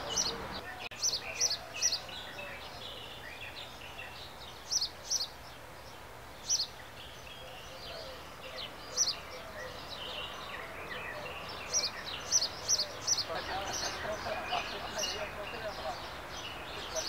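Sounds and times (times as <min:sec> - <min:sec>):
birds calling: 0:00.0 - 0:17.0
steady background hiss: 0:00.0 - 0:17.0.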